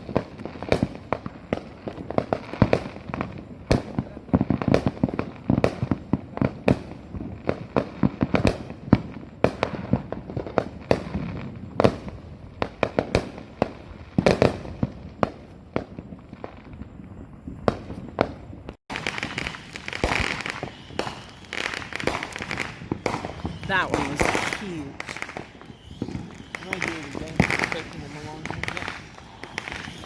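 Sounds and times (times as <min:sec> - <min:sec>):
fireworks crackle and fizz: 0:00.0 - 0:30.0
fireworks exploding: 0:00.0 - 0:30.0.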